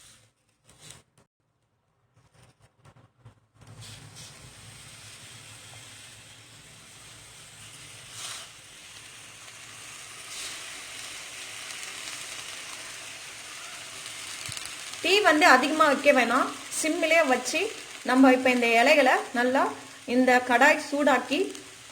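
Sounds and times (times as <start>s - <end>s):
leaves sizzling in hot pan: 3.8s - 21.9s.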